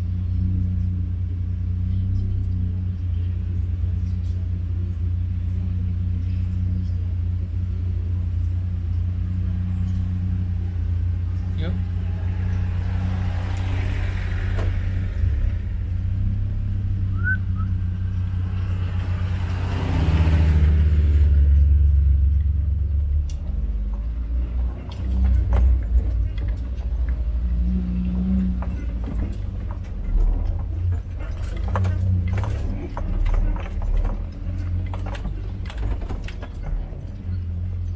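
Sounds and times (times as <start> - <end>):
car engine humming: 0.0 - 37.9.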